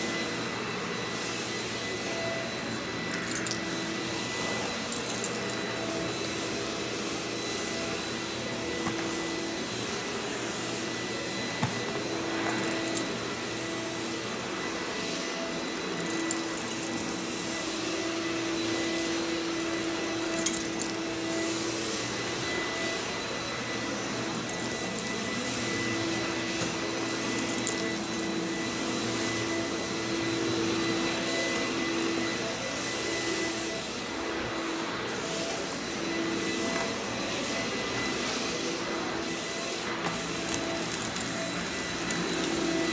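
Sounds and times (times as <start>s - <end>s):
vacuum cleaner running: 0.0s - 42.9s
floor tool pushed across carpet: 0.1s - 42.9s.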